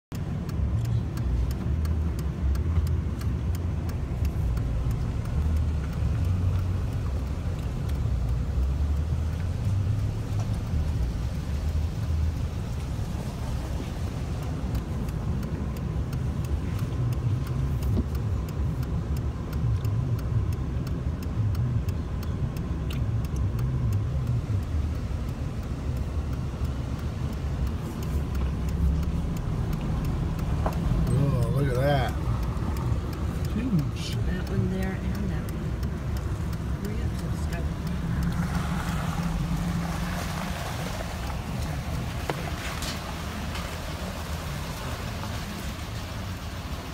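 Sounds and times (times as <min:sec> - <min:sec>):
vehicle engine and tyres rumbling: 0:00.0 - 0:46.9.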